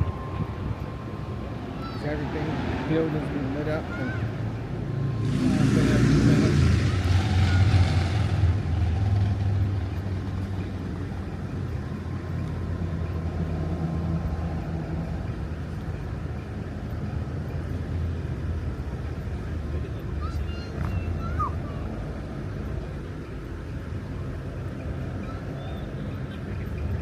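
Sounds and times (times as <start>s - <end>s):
rushing noise: 0.0s - 27.0s.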